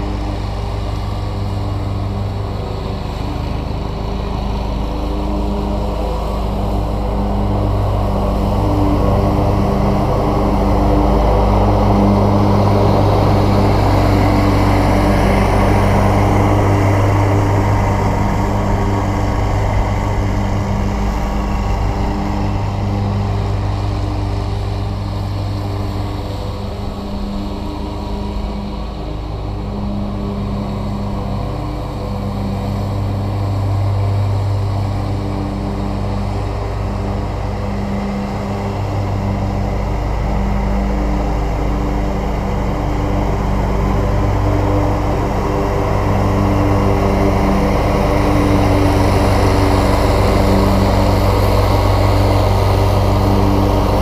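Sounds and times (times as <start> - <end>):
riding mower engine hum: 0.0 - 54.0.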